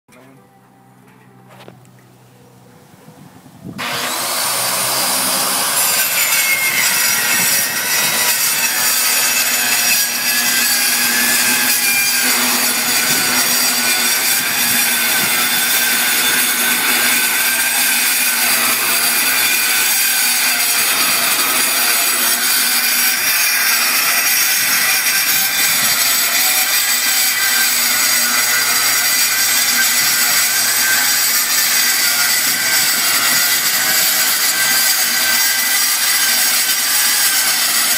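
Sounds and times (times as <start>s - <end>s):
circular saw cutting metal: 3.8s - 37.9s.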